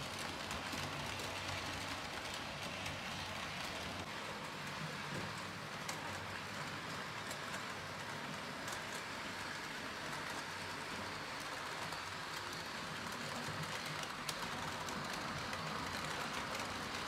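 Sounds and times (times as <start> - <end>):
model train wheels and motors whirring: 0.0 - 17.0.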